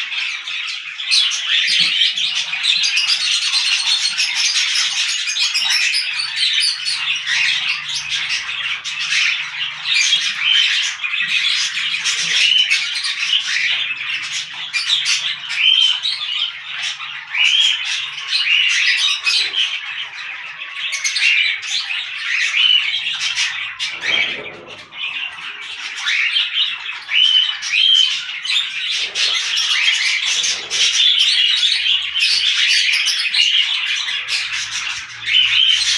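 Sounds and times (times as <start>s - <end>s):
parrots chattering and squawking: 0.0s - 35.9s.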